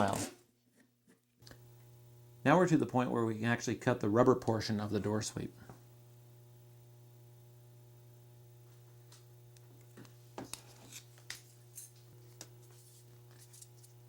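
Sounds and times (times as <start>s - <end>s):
steady low hum: 1.5s - 14.0s.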